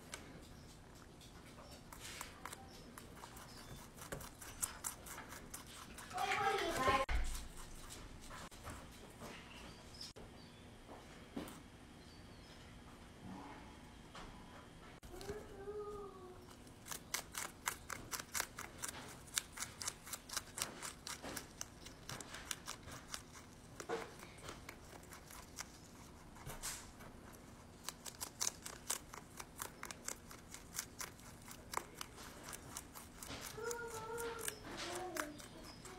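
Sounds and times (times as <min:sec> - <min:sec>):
rabbit crunching lettuce: 0:00.0 - 0:09.4, 0:15.0 - 0:35.9.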